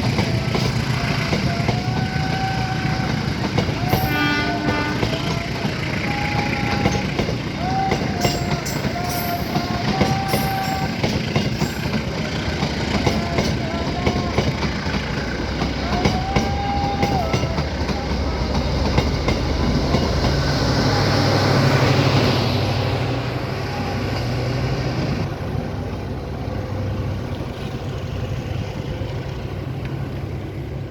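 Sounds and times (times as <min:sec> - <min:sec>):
train wheels clattering on rails: 0:00.0 - 0:25.3.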